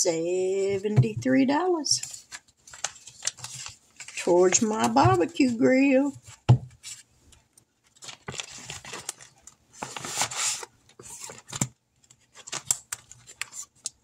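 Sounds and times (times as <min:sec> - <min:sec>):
paper rustling: 0:02.0 - 0:14.0.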